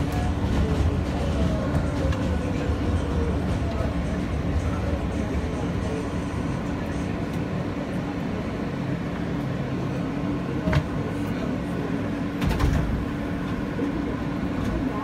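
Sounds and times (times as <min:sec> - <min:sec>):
elevated train rumble: 0:00.0 - 0:15.0.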